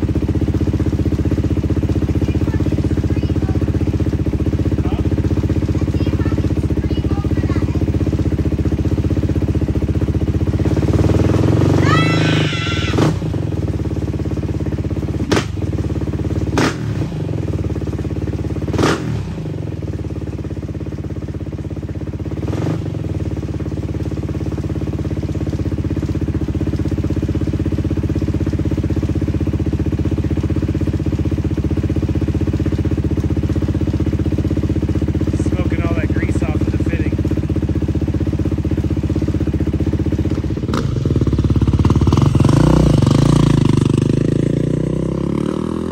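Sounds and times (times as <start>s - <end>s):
dirt bike engine revving: 0.0s - 21.0s, 22.2s - 45.9s
dirt bike engine idling: 0.0s - 45.9s.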